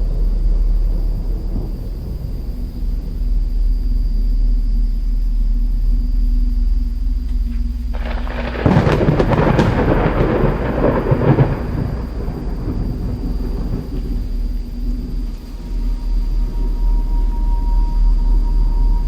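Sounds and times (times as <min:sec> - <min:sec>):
thunder crackle and crash: 0:00.0 - 0:06.3, 0:07.0 - 0:16.8
rolling thunder rumble: 0:00.0 - 0:19.0
steady low hum: 0:00.0 - 0:19.0.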